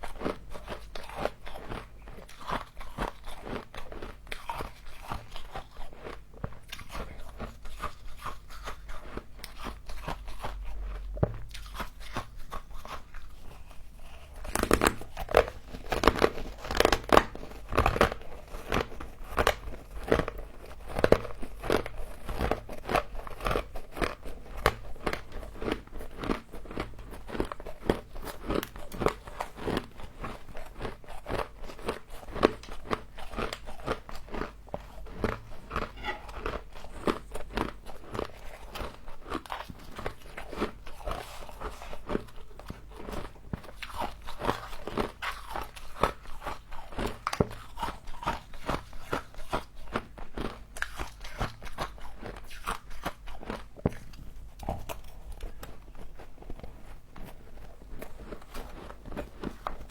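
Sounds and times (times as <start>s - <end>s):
frost being chewed: 0.0s - 59.9s.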